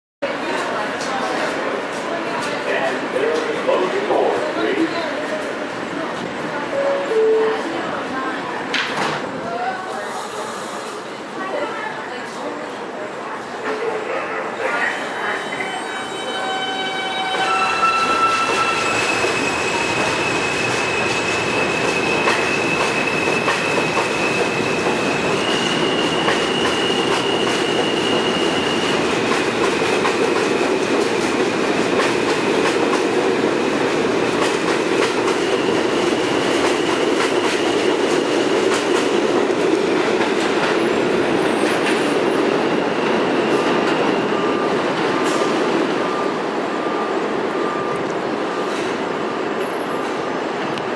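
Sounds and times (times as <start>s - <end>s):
subway train motors whining: 0.2s - 50.9s.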